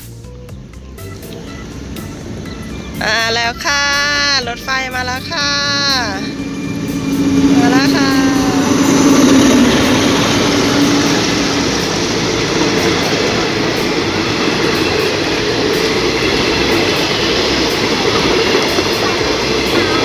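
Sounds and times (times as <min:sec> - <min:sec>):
train rumbling on rails: 0:00.0 - 0:20.0
steady hum: 0:01.3 - 0:20.0.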